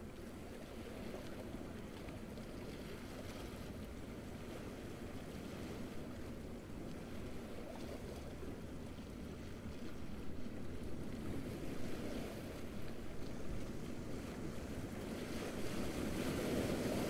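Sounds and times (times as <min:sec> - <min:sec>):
small waves lapping on a beach: 0:00.0 - 0:17.0.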